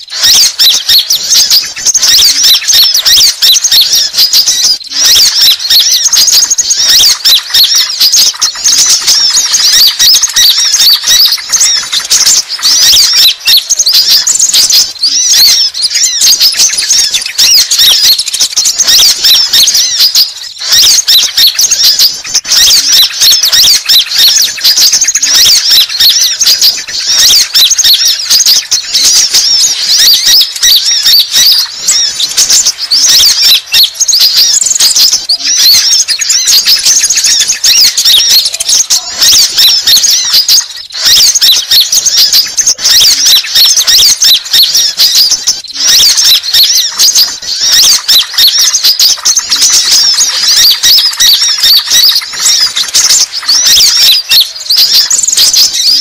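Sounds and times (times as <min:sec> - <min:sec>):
sunbirds chirping: 0:00.0 - 0:56.0.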